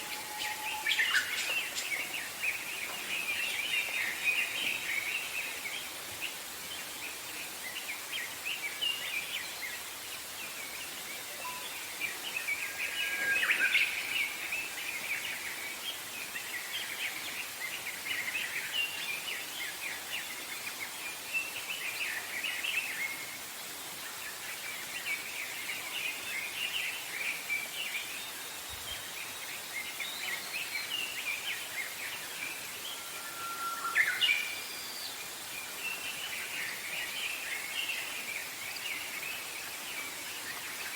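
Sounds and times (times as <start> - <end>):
songbirds chirping and singing: 0.0 - 22.4, 28.1 - 40.9
steady background hiss: 0.0 - 40.9.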